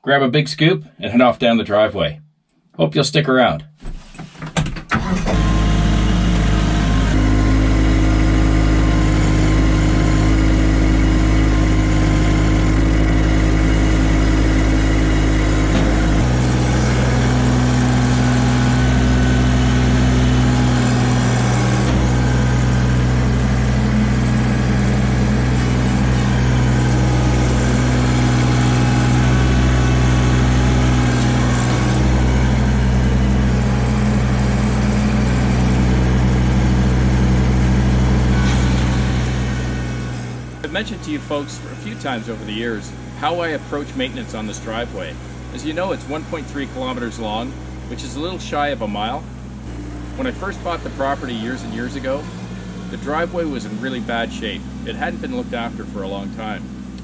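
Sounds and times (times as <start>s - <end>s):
diesel tractor engine running: 4.0s - 57.0s.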